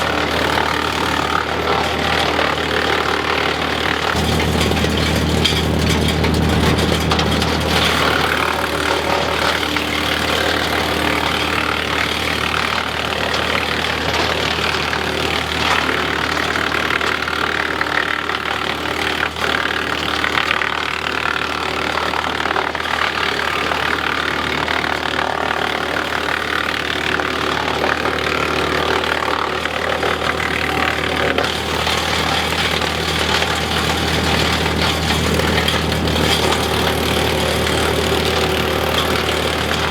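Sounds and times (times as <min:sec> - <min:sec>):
tractor engine hum: 0:00.0 - 0:39.9
wood chipper chipping branches: 0:00.0 - 0:39.9.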